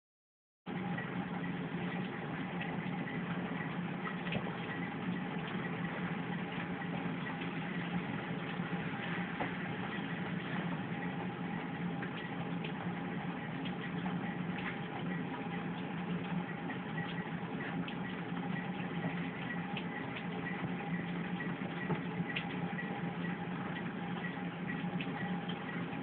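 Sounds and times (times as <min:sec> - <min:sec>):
steady low hum: 0:00.7 - 0:26.0.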